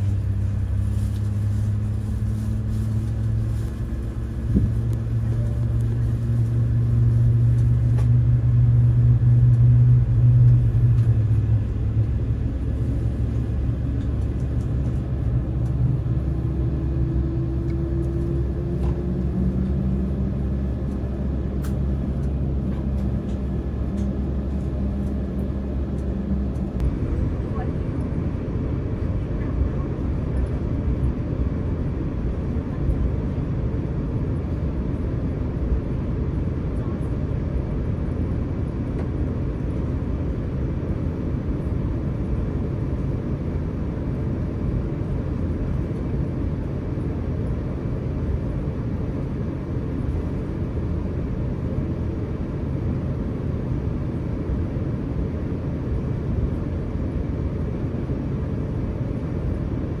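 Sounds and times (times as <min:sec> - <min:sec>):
aircraft cabin low rumble: 0:00.0 - 1:00.0.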